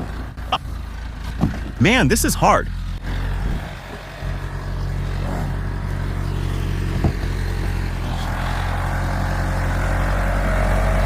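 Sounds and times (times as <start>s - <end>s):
backhoe engine running: 0.0s - 11.0s.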